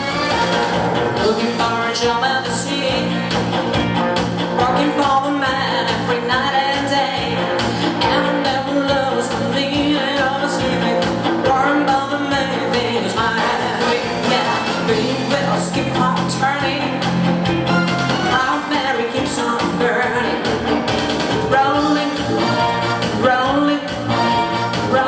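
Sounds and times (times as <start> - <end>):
person singing: 0.0 - 3.4, 4.5 - 17.3, 18.2 - 20.8, 21.4 - 25.0
pop-rock band music: 0.0 - 25.0
steady drum beat: 0.0 - 25.0.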